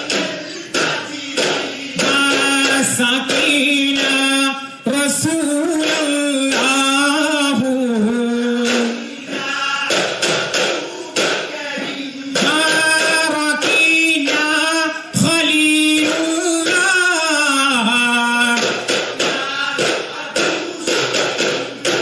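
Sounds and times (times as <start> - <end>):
men singing: 0.0 - 22.0.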